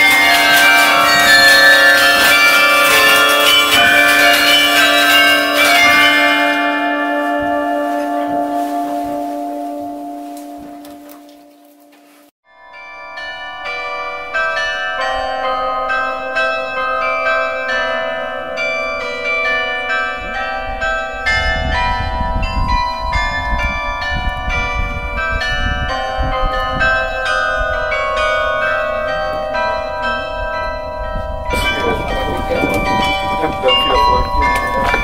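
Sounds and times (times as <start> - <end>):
carillon bells playing melody: 0.0 - 11.1, 12.5 - 35.0.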